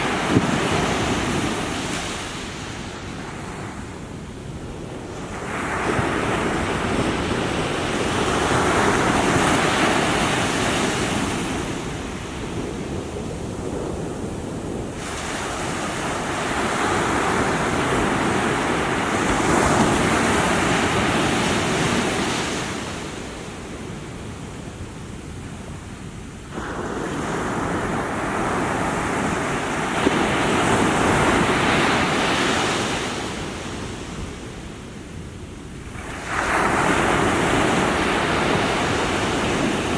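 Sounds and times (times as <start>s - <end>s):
small waves washing onto shore: 0.0s - 39.9s.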